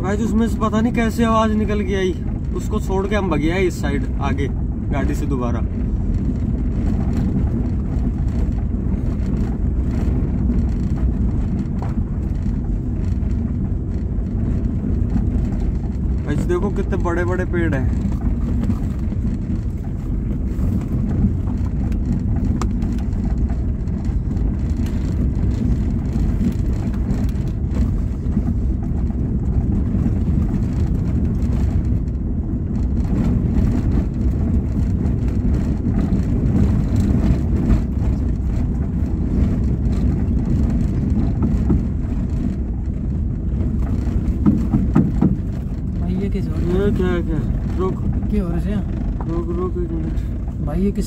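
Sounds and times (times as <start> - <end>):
engine and tyres rumbling: 0.0 - 51.0.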